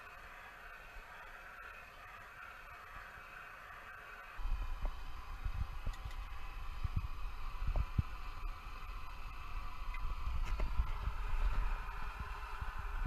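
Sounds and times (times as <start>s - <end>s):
gas stove burner hissing: 0.0s - 13.0s.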